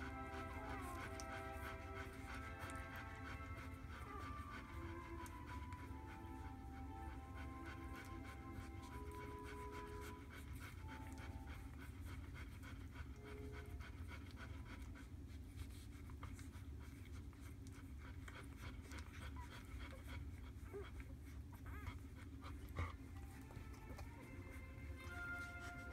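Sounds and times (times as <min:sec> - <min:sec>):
dog panting softly: 0:00.0 - 0:25.9
low steady hum: 0:00.0 - 0:25.9.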